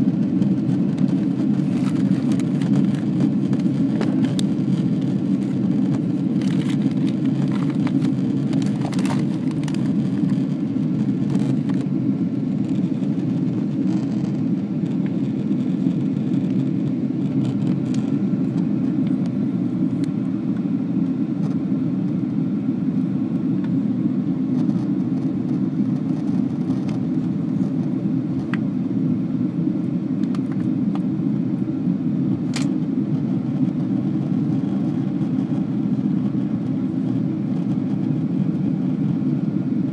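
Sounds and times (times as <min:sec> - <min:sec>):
airliner cabin engine roar: 0:00.0 - 0:39.9.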